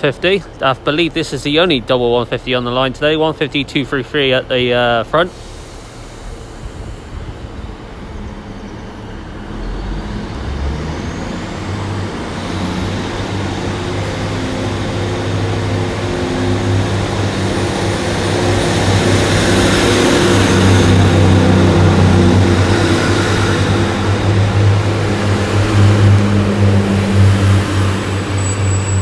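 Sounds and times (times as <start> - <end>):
diesel train engines: 0.0 - 29.0
high whine: 4.1 - 29.0.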